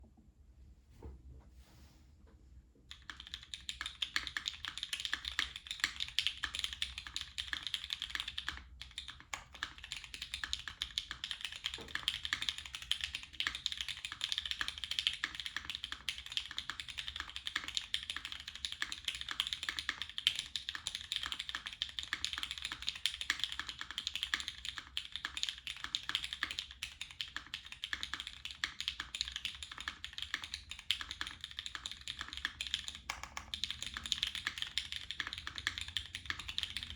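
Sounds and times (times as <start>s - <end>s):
mechanical keyboard typing: 2.9s - 36.9s.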